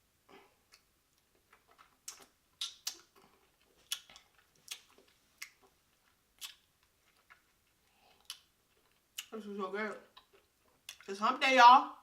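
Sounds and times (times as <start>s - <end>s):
wet chewing of grapes: 0.7s - 11.1s.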